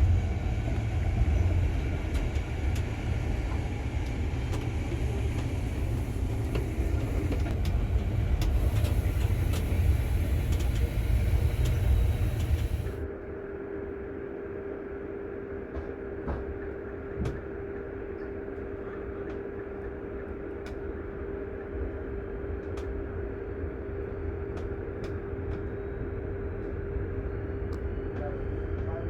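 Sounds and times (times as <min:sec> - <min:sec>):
train rumbling on rails: 0:00.0 - 0:13.1, 0:15.4 - 0:29.0
constant hum: 0:00.0 - 0:29.0.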